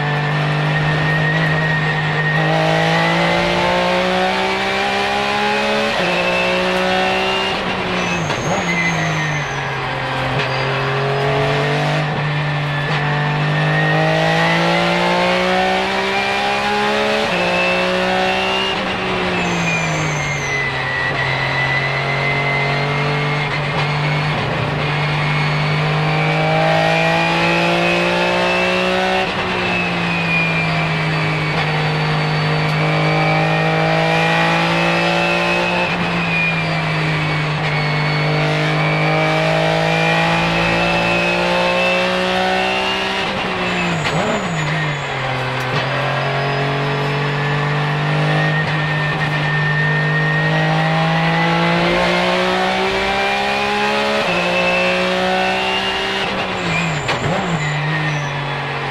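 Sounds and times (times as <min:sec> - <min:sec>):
high engine whine: 0:00.0 - 0:58.9
racing car engine revving: 0:00.0 - 0:58.9.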